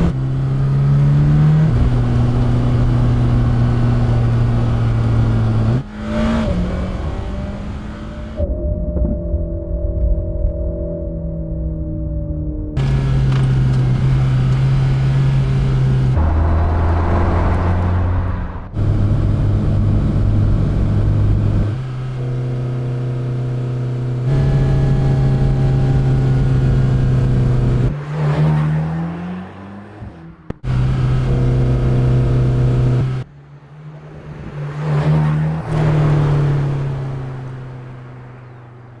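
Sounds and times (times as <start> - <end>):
car engine running and revving: 0.0 - 39.0.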